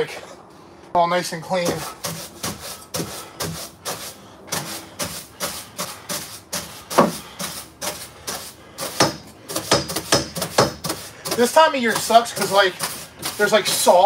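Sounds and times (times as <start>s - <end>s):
broom sweeping floor: 1.5s - 14.0s.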